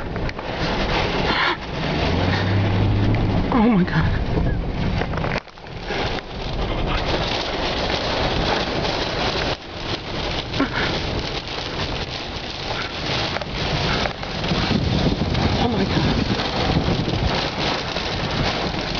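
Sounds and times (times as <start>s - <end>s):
heavy rain pelting windshield: 0.0s - 18.9s.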